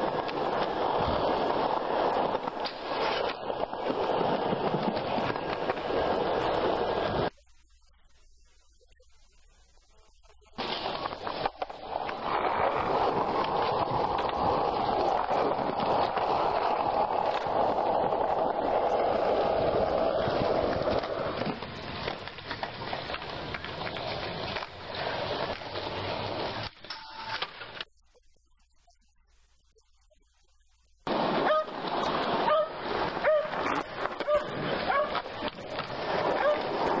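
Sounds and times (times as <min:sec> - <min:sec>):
skateboard wheels on rough concrete: 0:00.0 - 0:07.3, 0:10.6 - 0:27.8, 0:31.0 - 0:37.0.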